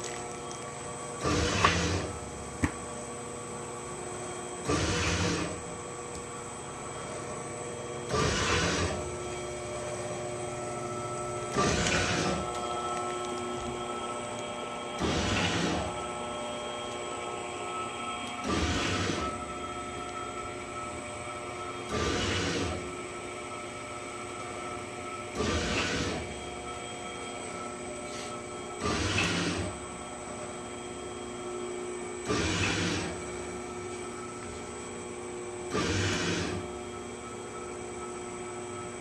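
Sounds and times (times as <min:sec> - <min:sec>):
machine motor hum: 0:00.0 - 0:39.0.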